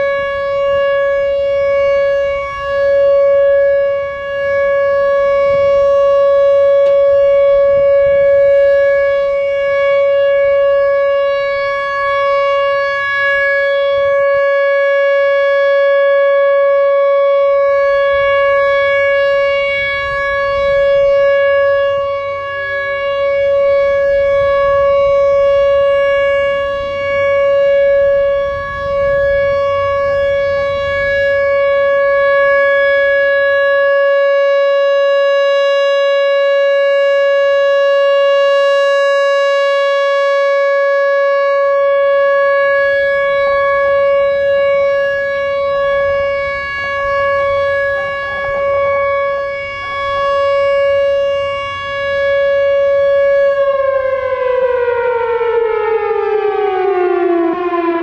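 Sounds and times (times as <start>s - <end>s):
tornado siren steady tone: 0.0s - 58.0s.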